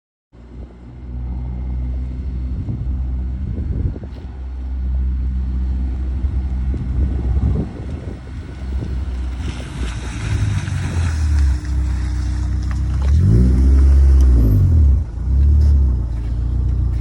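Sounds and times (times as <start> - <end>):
car engine idling: 0.4 - 17.0.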